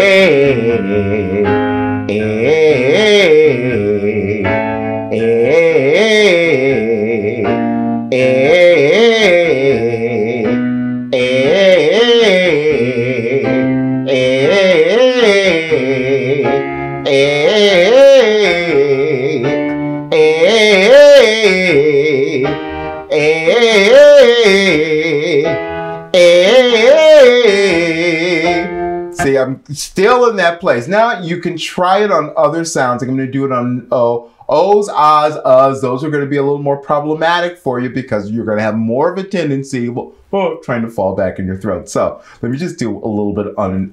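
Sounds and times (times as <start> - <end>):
piano accompaniment: 0.0 - 37.9
man singing vocal exercise: 0.0 - 43.9.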